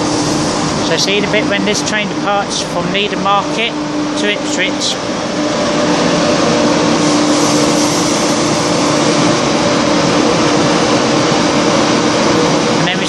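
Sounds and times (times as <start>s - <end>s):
diesel train engines humming: 0.0s - 13.0s.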